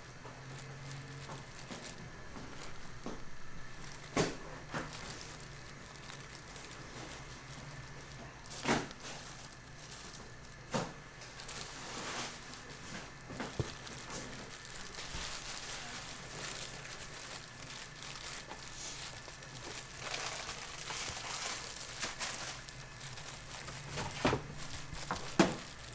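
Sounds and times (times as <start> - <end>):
plastic gloves crinkling: 0.0 - 25.9.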